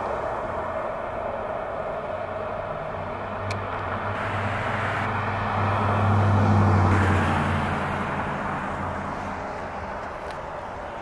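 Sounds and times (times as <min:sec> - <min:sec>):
background traffic noise: 0:00.0 - 0:11.0
vehicle passing by: 0:00.0 - 0:11.0.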